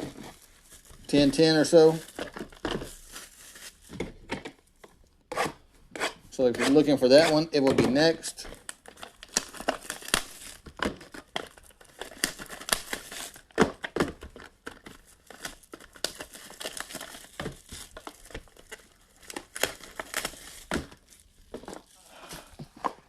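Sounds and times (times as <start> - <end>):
plastic wrap crinkling and tearing: 0.0 - 4.2, 8.4 - 22.6.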